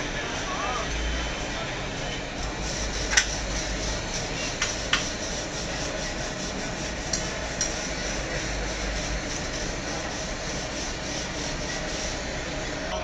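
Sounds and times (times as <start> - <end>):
abrasive block scrubbing metal: 2.4 - 13.0.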